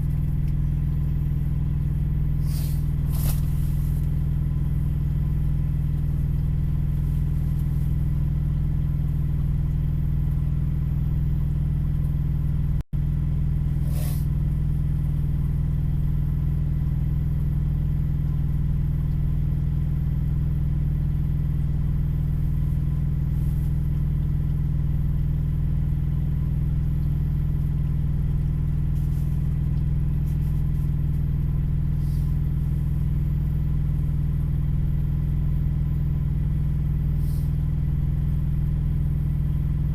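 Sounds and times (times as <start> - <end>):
engine idling with low hum: 0.0 - 39.9.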